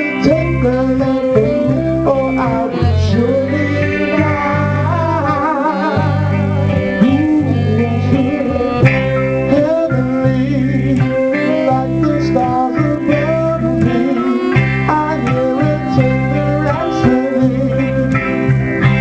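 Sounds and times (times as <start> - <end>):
people singing: 0.0 - 18.4
bass guitar held notes: 0.0 - 19.0
electric guitars: 0.0 - 19.0.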